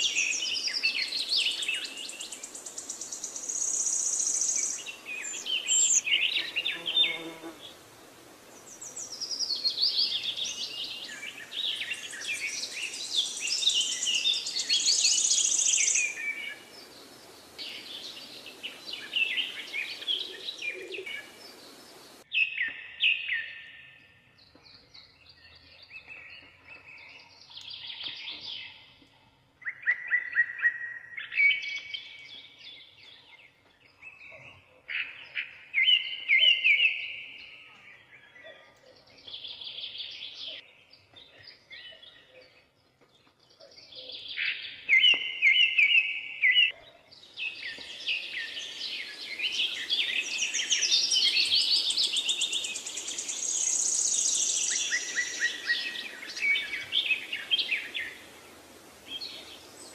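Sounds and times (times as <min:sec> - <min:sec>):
birds chirping and trilling: 0:00.0 - 0:07.8, 0:08.5 - 0:59.9.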